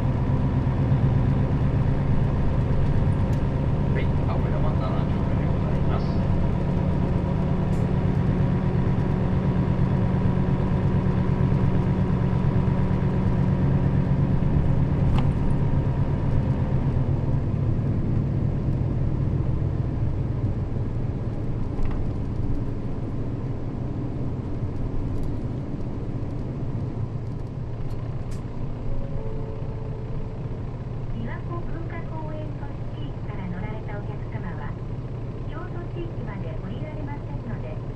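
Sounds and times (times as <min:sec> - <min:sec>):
bus engine drone: 0:00.0 - 0:37.9.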